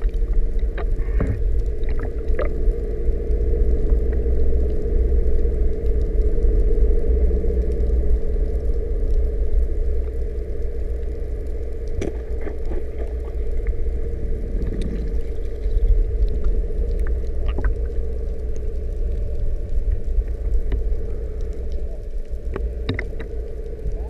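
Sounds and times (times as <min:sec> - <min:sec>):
boat engine idling underwater: 0:00.0 - 0:24.0
faint ticks: 0:00.0 - 0:24.0.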